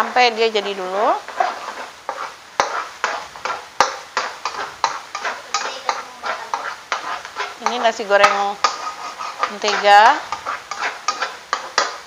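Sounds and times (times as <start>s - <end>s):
oil sizzling: 0.0s - 12.0s
metal spatula scraping eggs: 0.6s - 12.0s
spatula clacking against pan: 1.3s - 12.0s.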